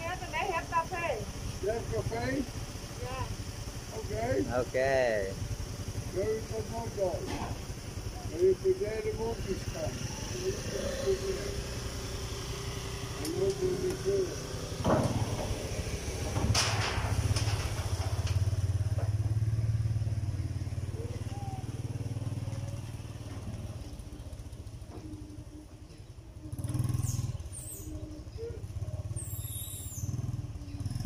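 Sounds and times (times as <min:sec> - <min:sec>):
motorbike engine running: 0:00.0 - 0:31.0.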